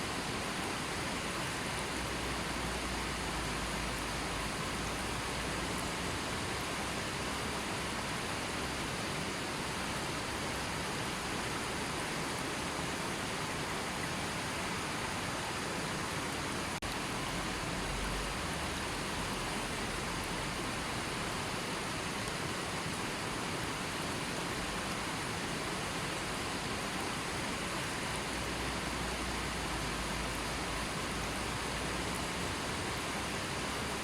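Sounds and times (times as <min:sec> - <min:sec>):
river flowing: 0:00.0 - 0:34.0.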